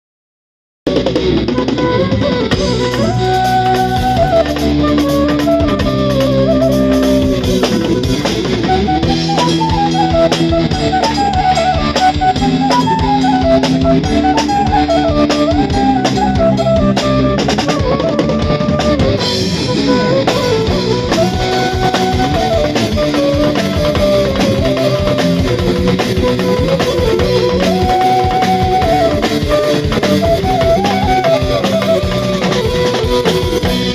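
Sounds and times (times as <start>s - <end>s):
bass: 0.9s - 33.9s
drum kit steady beat: 0.9s - 33.9s
flute melody: 0.9s - 33.9s
guitar: 0.9s - 33.9s.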